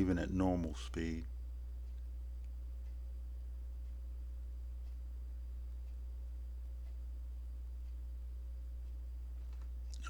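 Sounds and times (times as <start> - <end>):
faint background hiss: 0.0 - 10.0
low hum: 0.0 - 10.0.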